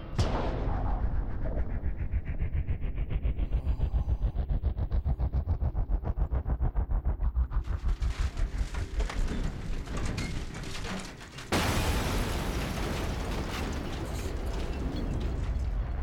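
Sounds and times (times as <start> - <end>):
clattering rumbling machinery: 0.0 - 16.0.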